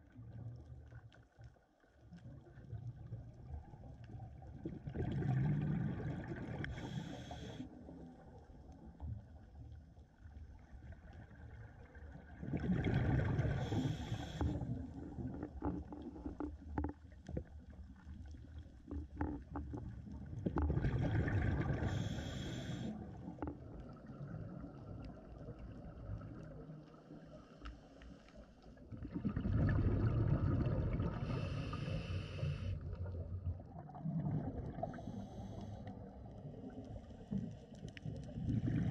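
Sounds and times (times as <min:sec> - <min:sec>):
underwater bubbles rushing: 0:01.9 - 0:27.4, 0:28.6 - 0:38.9.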